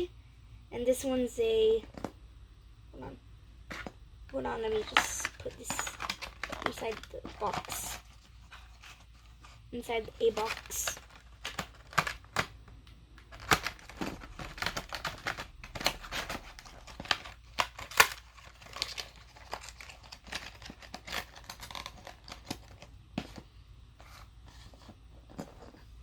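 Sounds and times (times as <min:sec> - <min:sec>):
packaging crinkling and rustling: 0:03.7 - 0:26.0.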